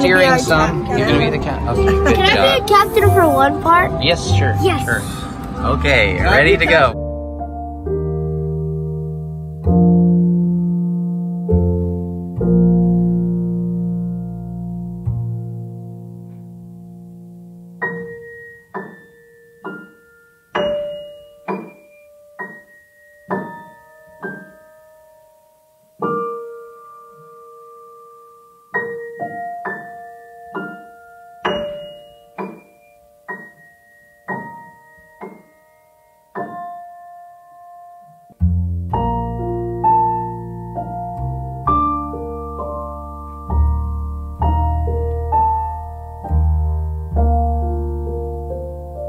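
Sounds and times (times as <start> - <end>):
slow gentle piano melody: 0.0 - 49.0.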